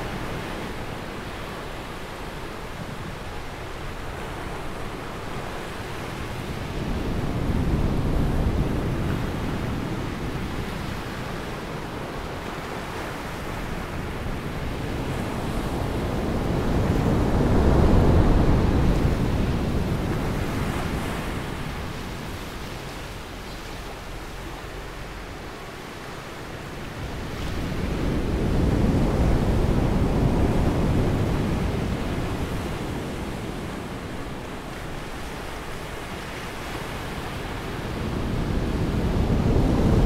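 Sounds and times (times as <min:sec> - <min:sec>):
ocean waves breaking on beach: 0:00.0 - 0:40.0.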